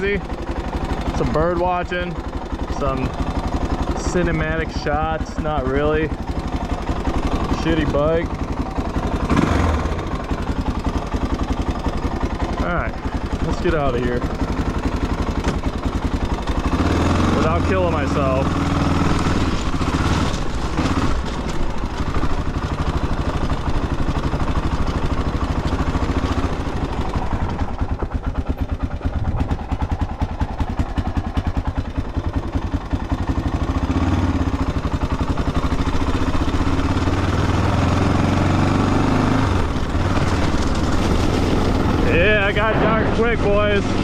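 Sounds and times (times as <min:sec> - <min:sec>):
dirt bike engine running: 0:00.0 - 0:44.0.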